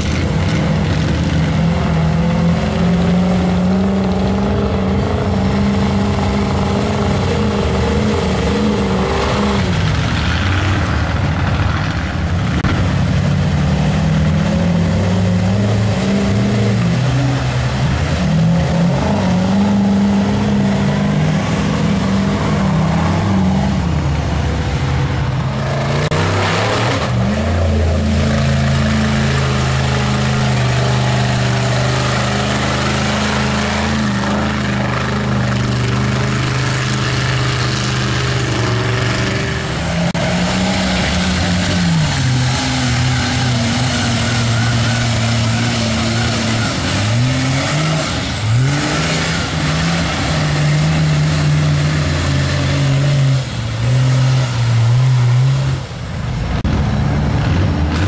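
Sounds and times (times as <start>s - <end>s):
mud and water splashing: 0.0s - 58.0s
truck engines revving: 0.0s - 58.0s.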